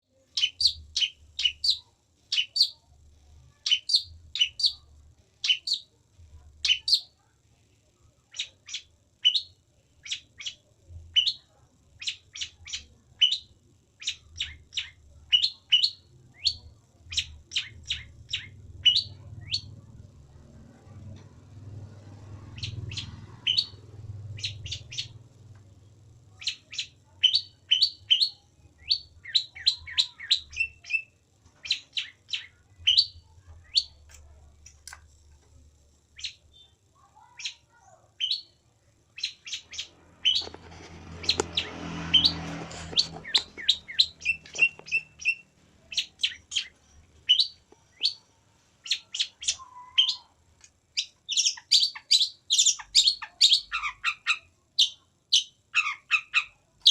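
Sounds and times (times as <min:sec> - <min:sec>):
bird chirping: 0:00.2 - 0:02.9, 0:03.5 - 0:06.0, 0:06.6 - 0:07.2, 0:08.3 - 0:20.1, 0:22.1 - 0:34.1, 0:36.1 - 0:38.6, 0:39.2 - 0:56.9.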